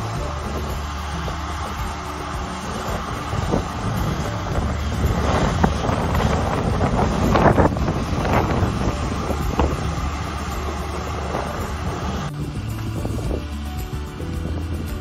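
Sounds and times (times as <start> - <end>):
combine harvester rumbling: 0.0 - 15.0
wind buffeting microphone: 0.0 - 15.0.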